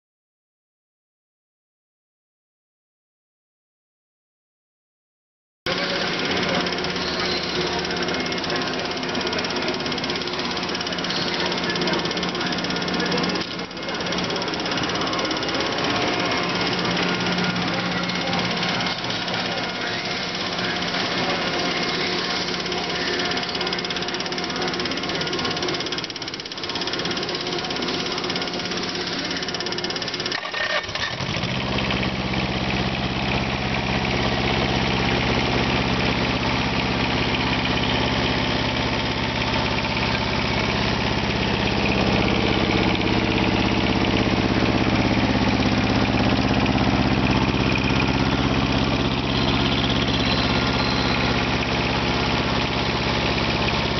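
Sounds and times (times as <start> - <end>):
diesel engine running: 5.7 - 53.9.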